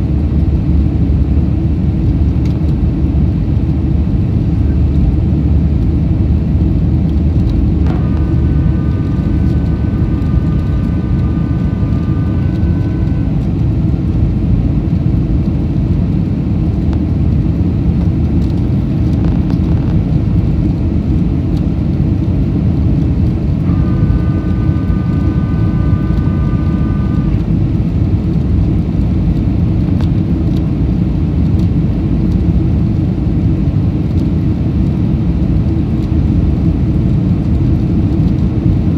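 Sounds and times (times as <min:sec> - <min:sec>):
airplane cabin engine roar: 0:00.0 - 0:38.9.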